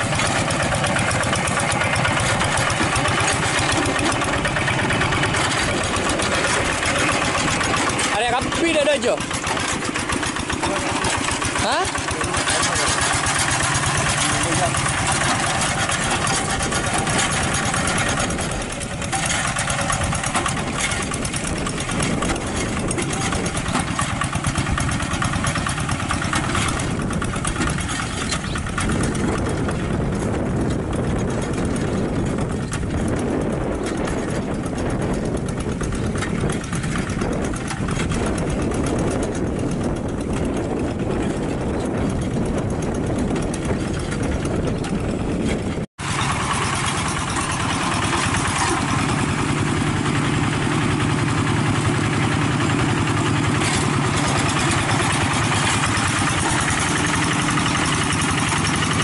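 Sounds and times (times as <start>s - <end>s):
diesel engine running: 0.0s - 59.0s
wheels dragging through mud: 0.0s - 59.0s.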